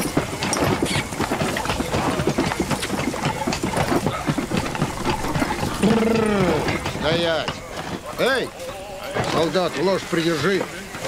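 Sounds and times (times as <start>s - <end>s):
cart rattling: 0.0s - 11.0s
horse hooves clopping: 0.0s - 11.0s.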